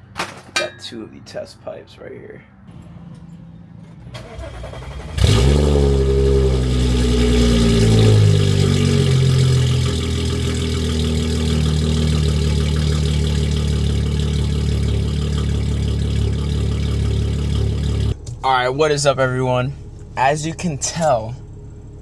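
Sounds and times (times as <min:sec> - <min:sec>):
car engine starting and idling: 0:02.5 - 0:22.0.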